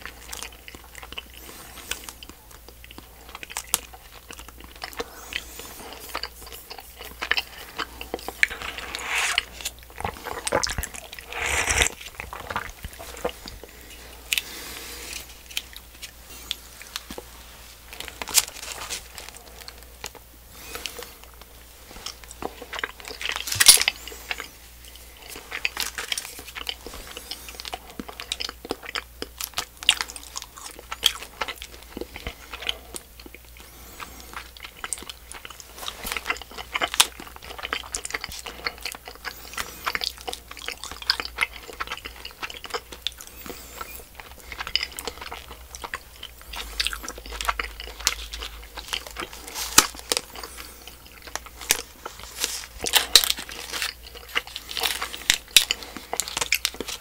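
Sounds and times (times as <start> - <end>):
chewing and mouth sounds: 0.0 - 57.0.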